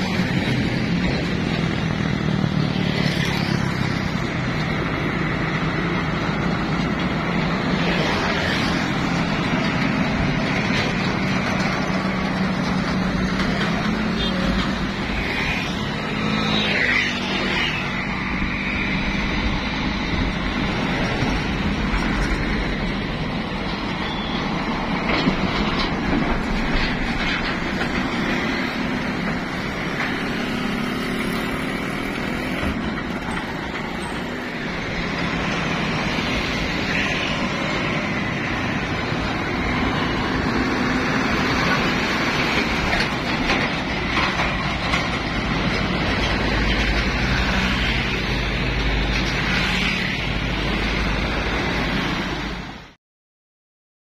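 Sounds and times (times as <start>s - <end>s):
heavy vehicle engine rumble: 0.0s - 53.0s
road traffic passing: 0.0s - 53.0s.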